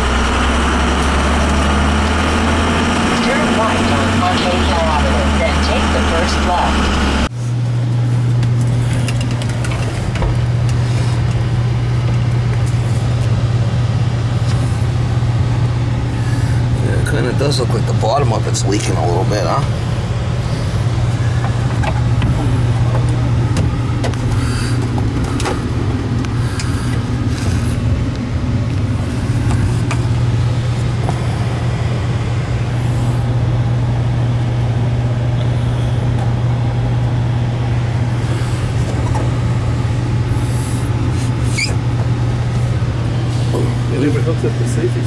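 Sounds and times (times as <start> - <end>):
furnace motor hum: 0.0 - 45.0.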